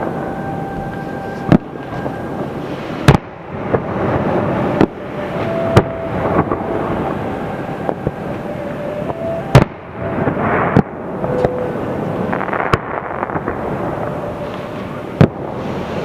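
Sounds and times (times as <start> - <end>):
fireworks rumble and crackle: 0.0 - 16.0
steady high tone: 0.0 - 16.0
firework cracks: 1.5 - 16.0.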